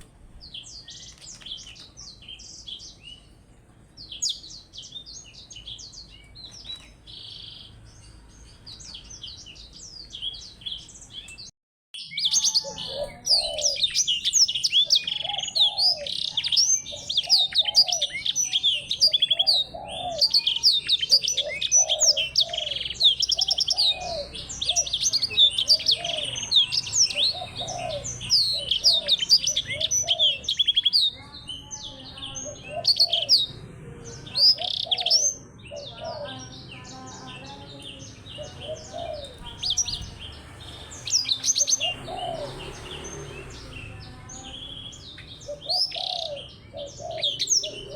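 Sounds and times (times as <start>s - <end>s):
songbirds twittering: 0.0s - 47.9s.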